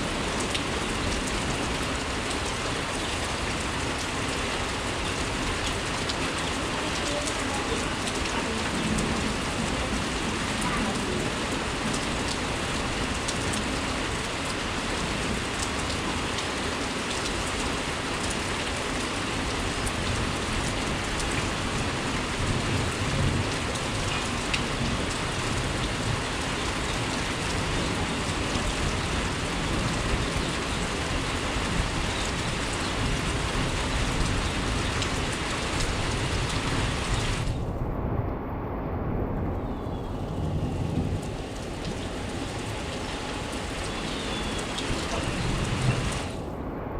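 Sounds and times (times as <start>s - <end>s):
thunder rumble: 0.0s - 16.4s, 17.8s - 46.9s
heavy rain pouring: 0.0s - 46.9s.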